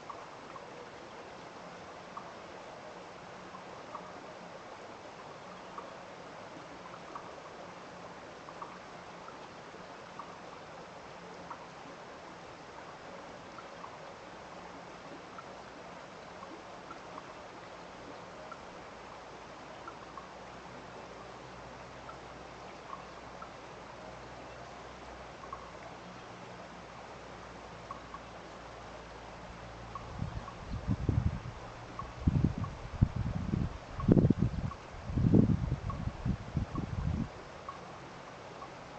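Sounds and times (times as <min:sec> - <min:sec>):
stream of water rushing: 0:00.0 - 0:38.9.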